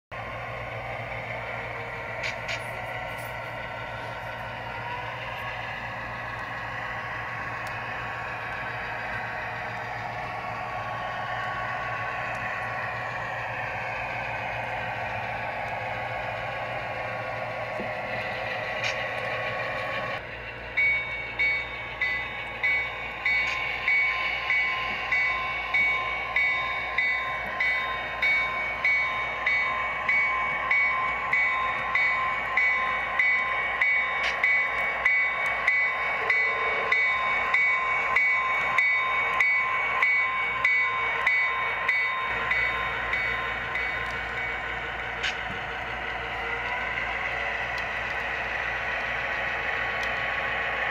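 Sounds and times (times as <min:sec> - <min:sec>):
model diesel locomotive running: 0:00.1 - 0:50.9
locomotive bell ringing: 0:00.2 - 0:50.9.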